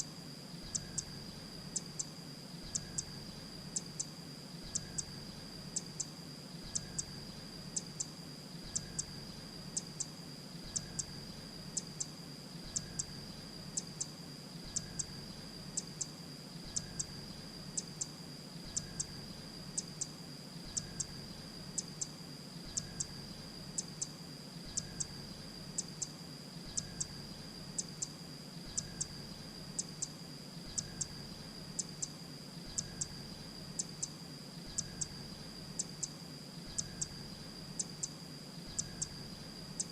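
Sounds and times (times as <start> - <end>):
steady high-pitched whine: 0.0 - 39.9.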